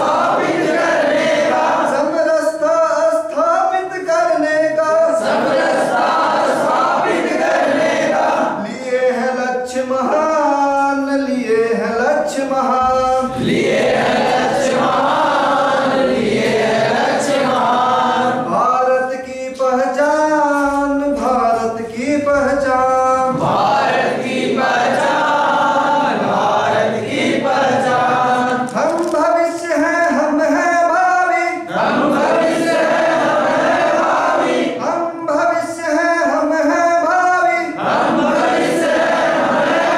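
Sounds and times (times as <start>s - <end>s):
men singing call and response: 0.0s - 39.9s.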